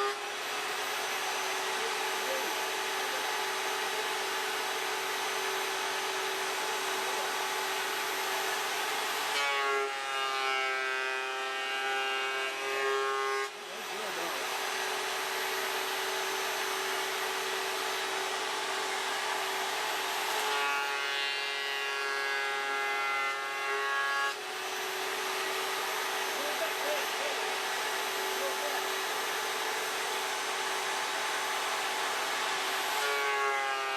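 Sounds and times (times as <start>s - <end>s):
electric wood planer running: 0.0s - 33.9s
planer whine: 0.0s - 33.9s.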